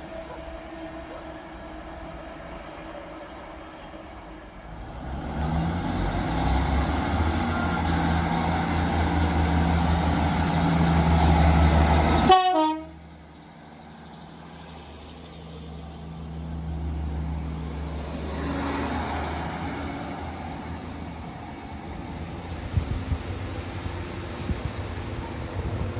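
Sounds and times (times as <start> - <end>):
distant train rumble: 0.0 - 25.9
train passing close: 0.0 - 25.9.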